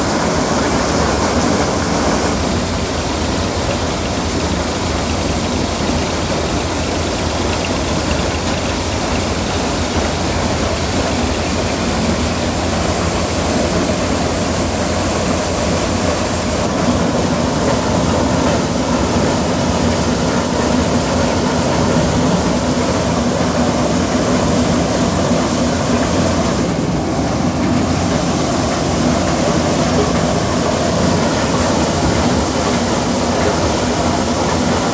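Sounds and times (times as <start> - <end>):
tractor engine under load: 0.0 - 34.9.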